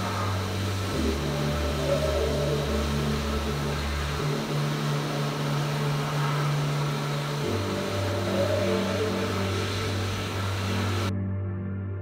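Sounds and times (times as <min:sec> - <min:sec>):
blast cabinet hissing: 0:00.0 - 0:11.1
background music: 0:00.0 - 0:12.0.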